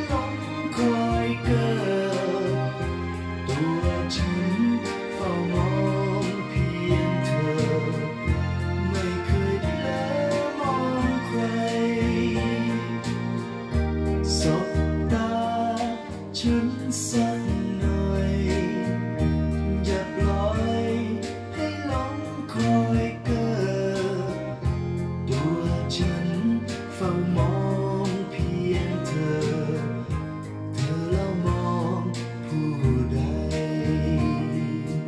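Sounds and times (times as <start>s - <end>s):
pop song playing: 0.0s - 35.0s.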